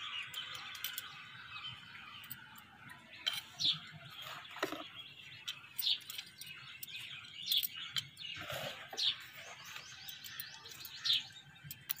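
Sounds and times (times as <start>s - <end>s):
bird high chirp: 0.0s - 12.0s.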